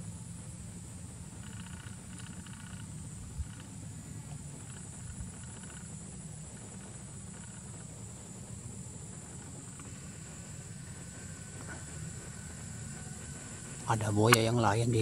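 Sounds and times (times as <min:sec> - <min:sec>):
insect chirring: 0:00.2 - 0:15.0.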